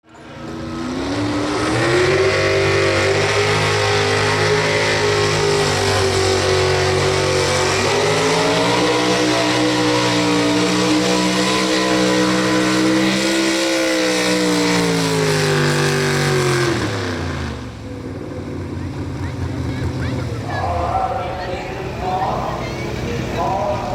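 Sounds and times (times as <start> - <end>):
truck engine at high revs: 0.0 - 23.9.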